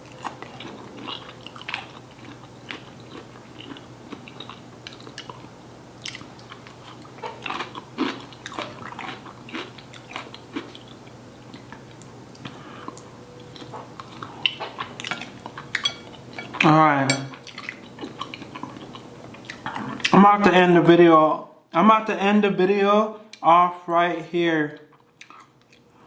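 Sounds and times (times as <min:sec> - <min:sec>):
person chewing food: 0:00.0 - 0:20.2, 0:24.9 - 0:26.0.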